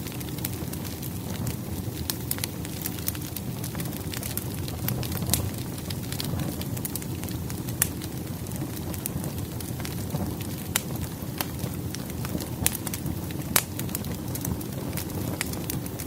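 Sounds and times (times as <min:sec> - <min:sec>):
firewood crackling and popping: 0:00.0 - 0:16.0
low rush of flame: 0:00.0 - 0:16.0.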